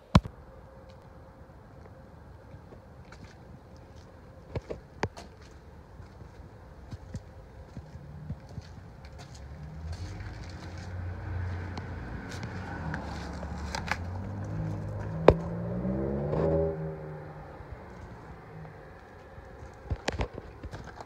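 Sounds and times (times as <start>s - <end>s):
vehicle engine running: 4.0s - 21.0s.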